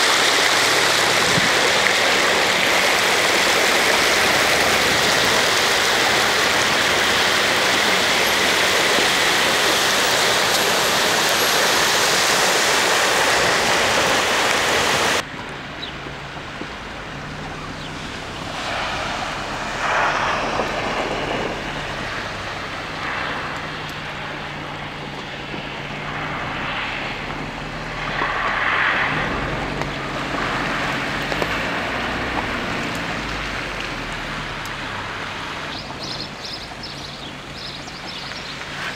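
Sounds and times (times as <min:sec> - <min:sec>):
floodwater rushing: 0:00.0 - 0:38.9.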